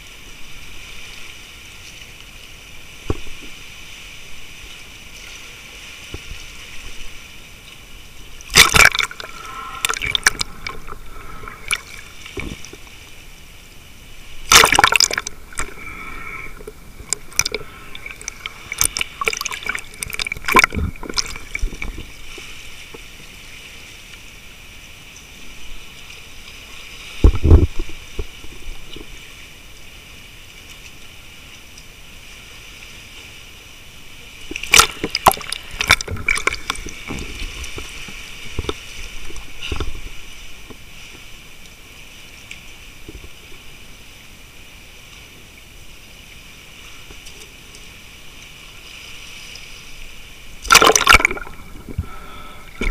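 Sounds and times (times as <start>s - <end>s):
sea water sloshing and gurgling: 0.0s - 52.9s
splashing rushes of water: 0.0s - 52.9s
steady watery hiss: 0.0s - 52.9s.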